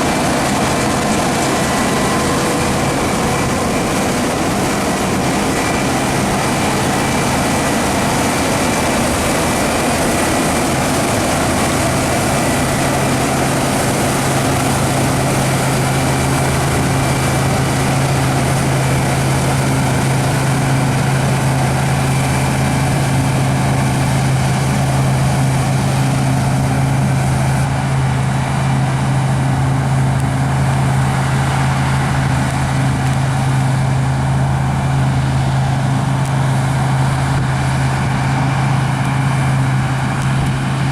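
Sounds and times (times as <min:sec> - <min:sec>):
heavy diesel engine running: 0:00.0 - 0:40.9
rush of mechanical noise: 0:00.0 - 0:40.9.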